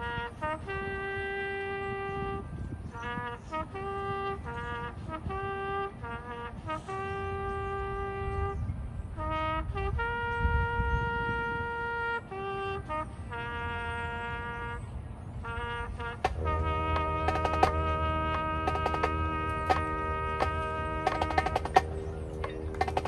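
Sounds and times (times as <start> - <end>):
solo trumpet melody: 0.0 - 23.0.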